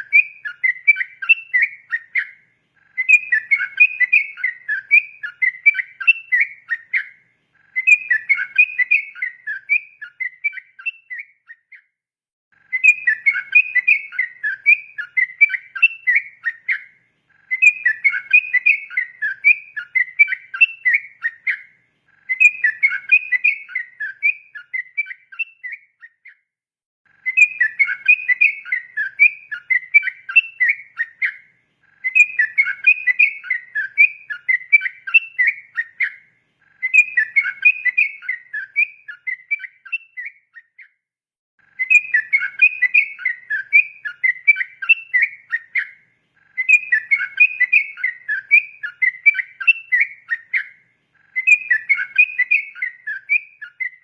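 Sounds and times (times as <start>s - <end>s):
bird singing rolling whistled song: 0.0s - 12.0s, 12.6s - 26.5s, 27.1s - 41.0s, 41.6s - 54.0s.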